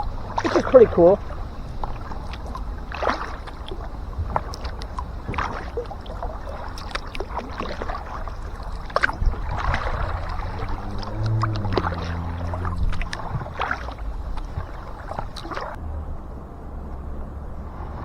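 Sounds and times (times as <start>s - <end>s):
paddle splashing water: 0.0s - 15.8s
low rumble of water and wind: 0.0s - 18.0s
low steady drone: 0.0s - 18.0s.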